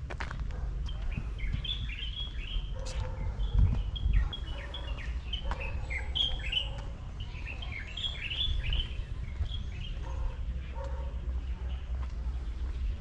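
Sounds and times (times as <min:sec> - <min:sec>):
steady low rumble: 0:00.0 - 0:13.0
small birds chirping: 0:00.3 - 0:13.0.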